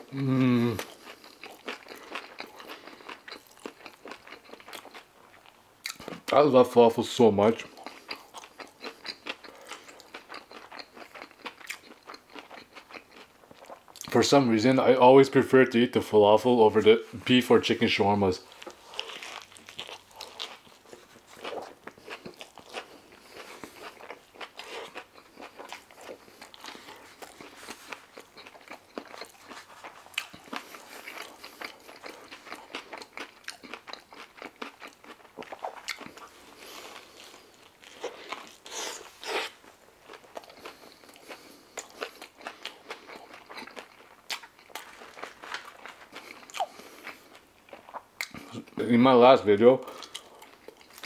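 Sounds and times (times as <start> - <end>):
person chewing crunchy food: 0.0 - 6.4, 7.4 - 14.2, 18.4 - 48.8, 49.8 - 51.0.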